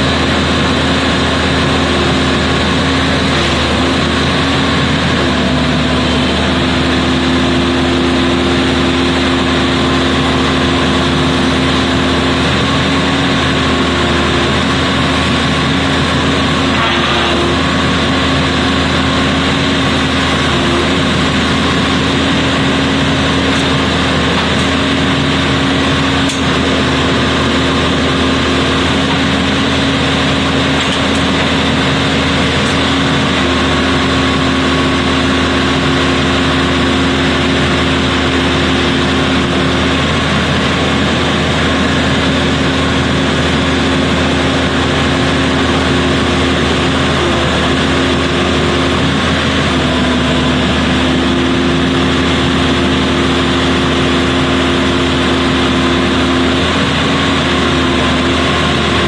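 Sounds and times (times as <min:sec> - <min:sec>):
drilling rig drone: 0:00.0 - 0:59.0.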